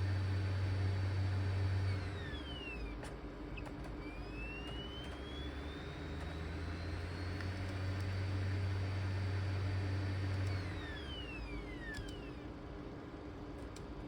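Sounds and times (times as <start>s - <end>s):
cd drive whine: 0.0s - 14.0s.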